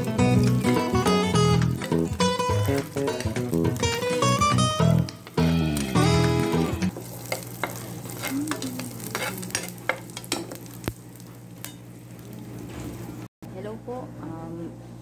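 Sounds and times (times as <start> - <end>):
garlic sizzling in oil: 0.0 - 13.3.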